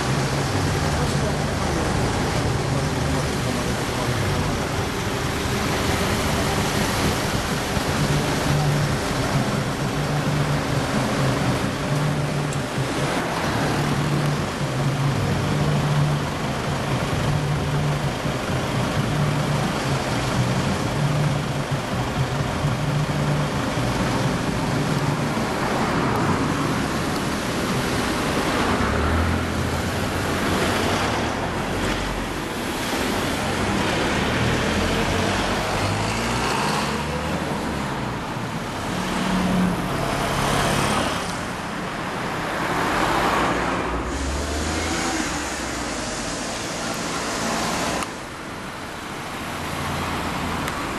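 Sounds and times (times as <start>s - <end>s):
cars driving past: 0.0s - 50.9s.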